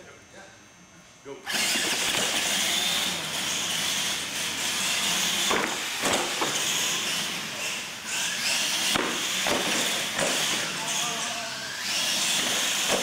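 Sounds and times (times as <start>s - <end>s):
toy truck motor whine: 1.5s - 13.0s.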